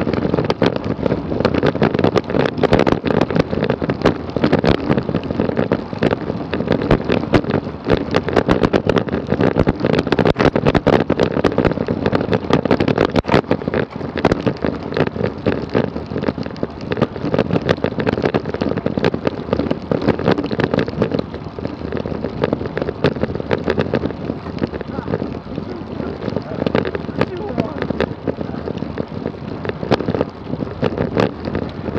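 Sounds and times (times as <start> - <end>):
bike clicking and rattling: 0.0 - 31.9
road noise: 0.0 - 31.9
wind rush: 0.0 - 31.9.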